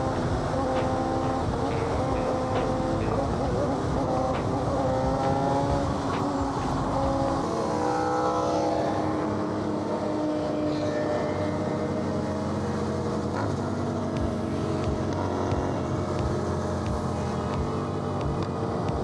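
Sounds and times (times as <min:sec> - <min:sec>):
sportbike engine accelerating: 0:00.0 - 0:19.0.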